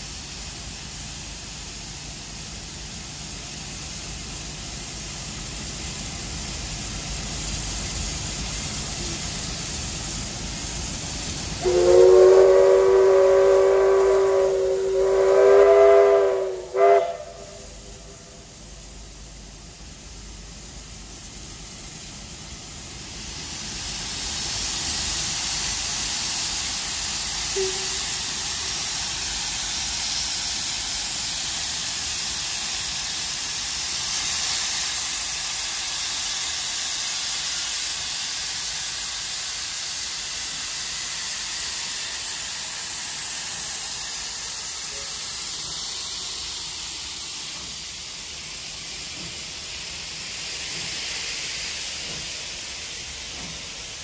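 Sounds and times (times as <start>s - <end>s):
steam locomotive hissing steam: 0.0s - 54.0s.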